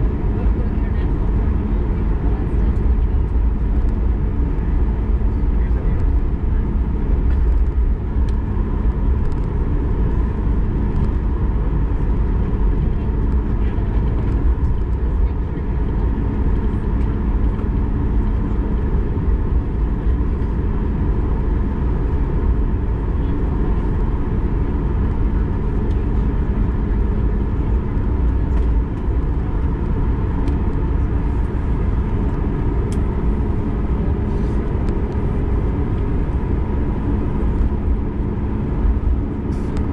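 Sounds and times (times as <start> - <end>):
airplane cabin rumble: 0.0 - 39.9
jet engines humming at idle: 0.0 - 39.9.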